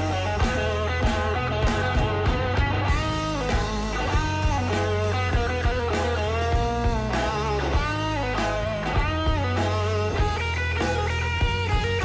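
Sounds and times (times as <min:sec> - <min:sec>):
bass guitar: 0:00.0 - 0:12.0
electric guitar lead lines: 0:00.0 - 0:12.0
steady drum beat: 0:00.0 - 0:12.0.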